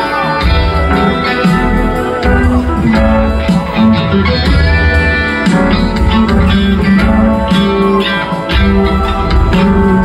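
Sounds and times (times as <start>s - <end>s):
electric guitar: 0.0s - 10.0s
rock band playing: 0.0s - 10.0s.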